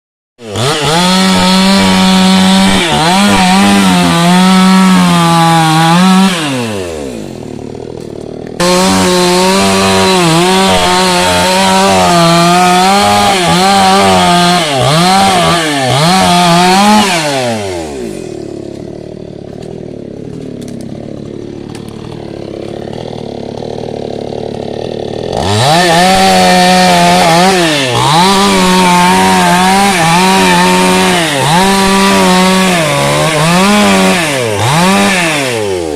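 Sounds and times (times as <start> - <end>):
chainsaw cutting wood: 0.4 - 35.9.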